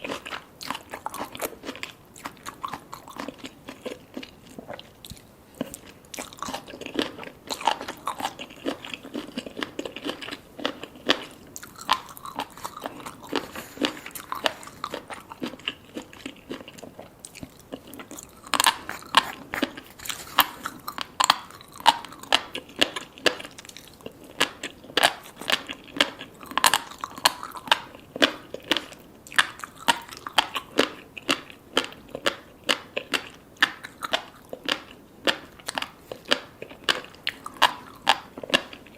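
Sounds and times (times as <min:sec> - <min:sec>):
close chewing with crisp pops: 0:00.0 - 0:38.9.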